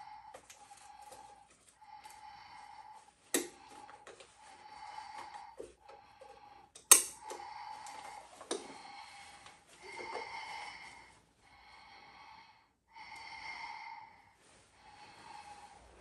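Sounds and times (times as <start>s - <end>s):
heavy breathing through gas mask: 0.0s - 16.0s.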